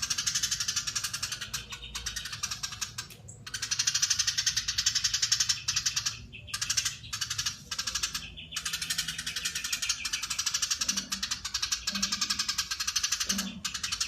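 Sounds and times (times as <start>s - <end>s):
sparrow chattering call: 0.0s - 14.0s.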